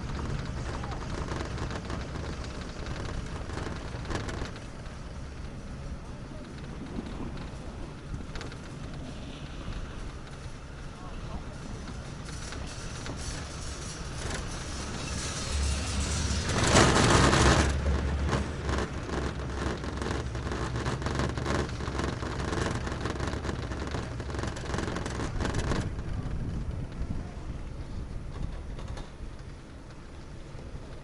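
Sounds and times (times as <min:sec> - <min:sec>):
chairlift mechanical rumble: 0:00.0 - 0:31.0.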